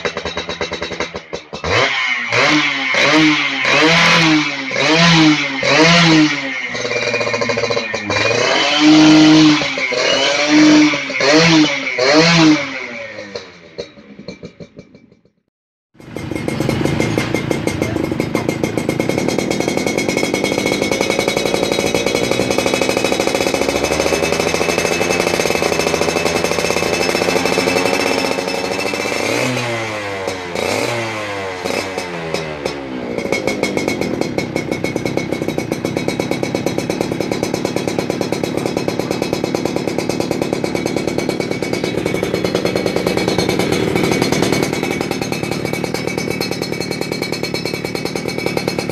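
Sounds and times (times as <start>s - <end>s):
two-stroke engine idling and revving: 0.0s - 48.9s.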